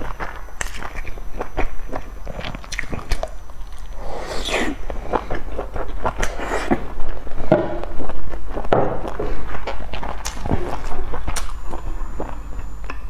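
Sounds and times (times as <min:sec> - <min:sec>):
wet chewing with mouth clicks: 0:00.0 - 0:13.0.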